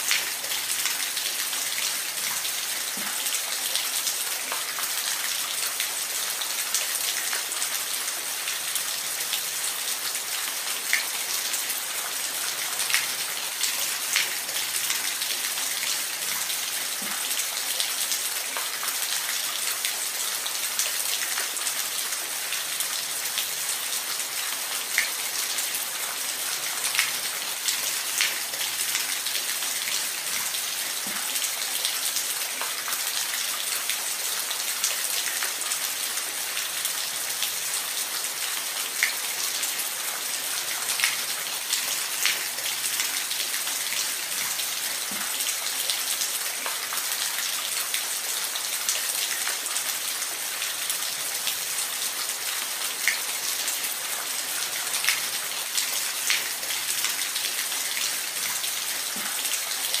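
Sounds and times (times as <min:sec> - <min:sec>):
steady rain hiss: 0:00.0 - 1:00.0.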